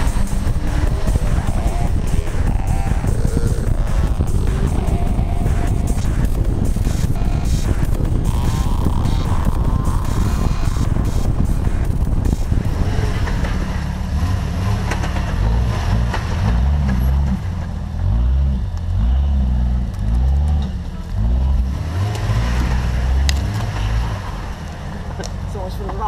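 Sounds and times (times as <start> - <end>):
off-road vehicle engine: 0.0 - 26.0.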